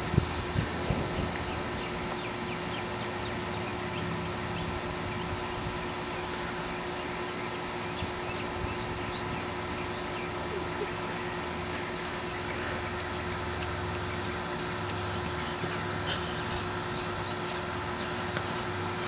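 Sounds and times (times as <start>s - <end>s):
steady street hum: 0.0s - 19.0s.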